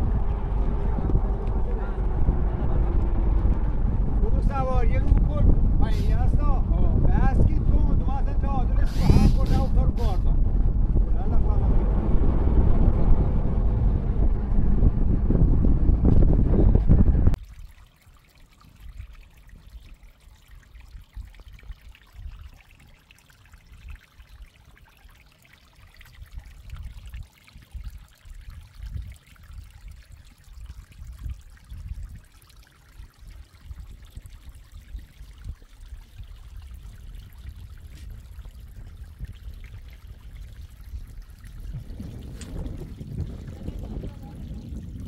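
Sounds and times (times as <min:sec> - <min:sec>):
stream trickling over stones: 0:00.0 - 0:10.6, 0:17.3 - 0:45.0
wind rumbling on microphone: 0:00.0 - 0:17.4, 0:26.0 - 0:45.0.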